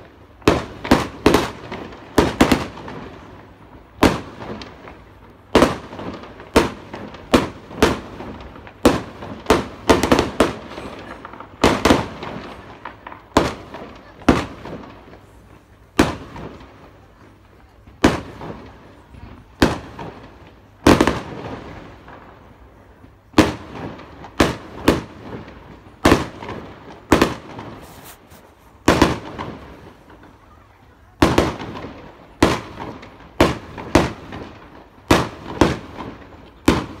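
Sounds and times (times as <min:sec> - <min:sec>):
fireworks bangs with echo: 0:00.0 - 0:37.0.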